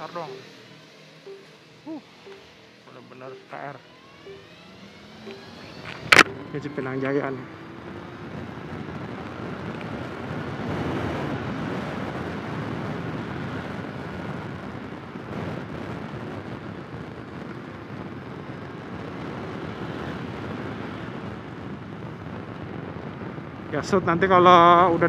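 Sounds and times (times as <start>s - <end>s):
wind and road noise: 4.4s - 25.0s.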